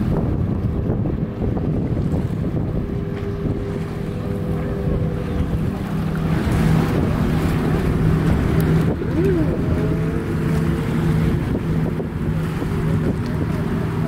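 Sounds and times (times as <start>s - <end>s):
distant motorboat engine drone: 0.0s - 14.0s
waves lapping in shallow water: 0.0s - 14.0s
wind buffeting microphone: 0.0s - 14.0s.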